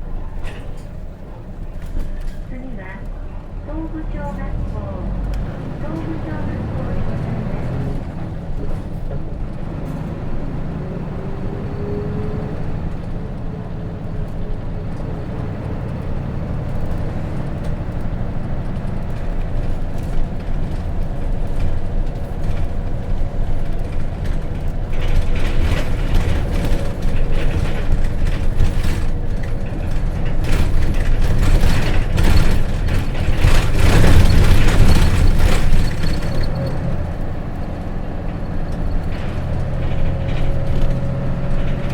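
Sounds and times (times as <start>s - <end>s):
diesel bus engine running: 0.0s - 41.9s
road noise: 0.0s - 41.9s
clatter and knocks from bus body: 0.1s - 3.1s, 5.3s - 41.9s.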